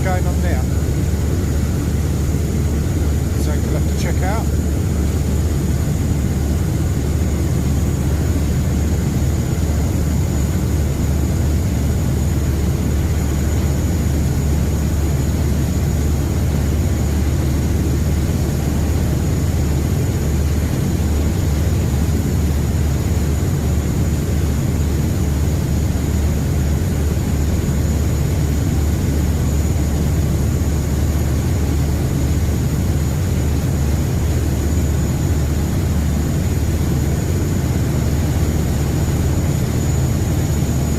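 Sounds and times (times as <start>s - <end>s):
boat engines droning: 0.0s - 40.9s
faint high whine: 0.0s - 40.9s.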